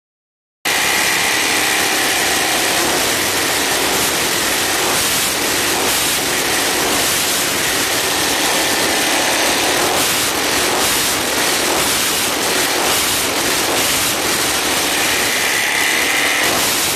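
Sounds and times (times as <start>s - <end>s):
quad engine running with rattle: 0.7s - 16.9s.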